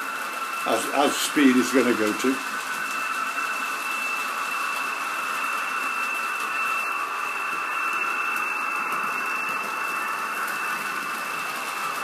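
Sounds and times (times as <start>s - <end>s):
high motor whine: 0.0s - 12.0s.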